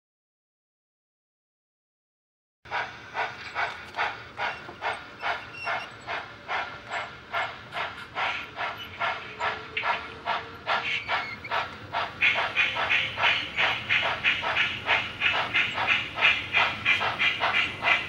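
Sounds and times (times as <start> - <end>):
model steam locomotive chuffing: 2.7 - 18.0
steam hiss: 2.7 - 18.0.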